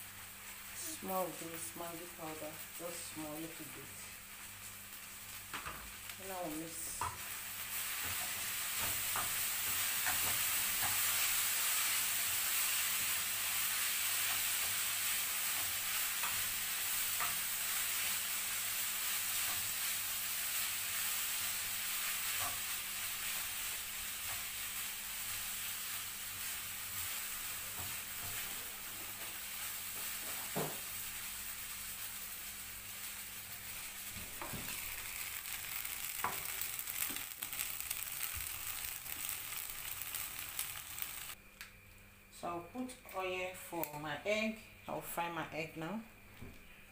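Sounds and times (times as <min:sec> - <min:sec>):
noodles sizzling in a frying pan: 0:00.0 - 0:41.4.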